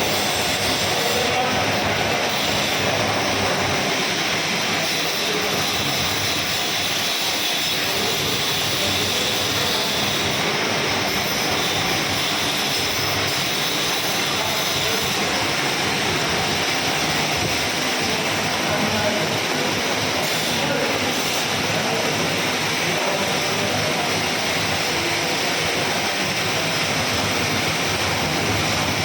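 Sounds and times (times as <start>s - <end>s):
metal lathe running: 0.0s - 29.0s.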